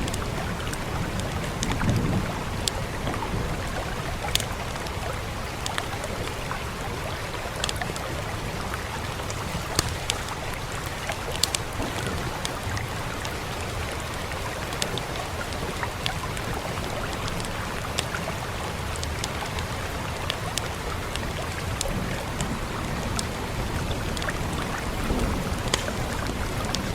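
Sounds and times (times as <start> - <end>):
rain hissing: 0.0 - 26.9
wood fire crackling and popping: 0.0 - 26.9.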